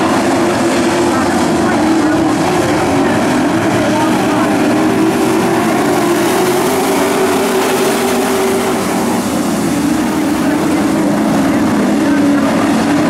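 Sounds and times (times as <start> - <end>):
racing truck engines droning: 0.0 - 13.0.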